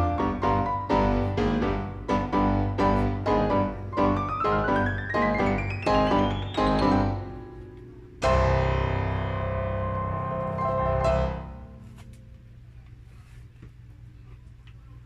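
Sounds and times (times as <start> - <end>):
piano chords: 0.0 - 12.7.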